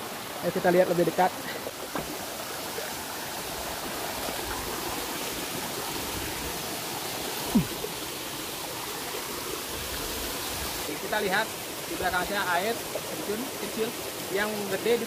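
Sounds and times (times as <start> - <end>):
stream running over boulders: 0.0 - 15.0
waterfall rushing: 0.0 - 15.0.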